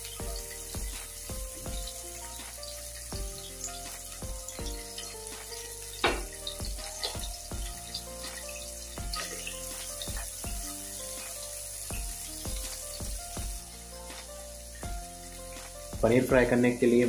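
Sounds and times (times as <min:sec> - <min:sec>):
oil spitting: 0:00.0 - 0:16.2
food sizzling in hot oil: 0:00.0 - 0:17.0
soft background music: 0:00.0 - 0:17.0.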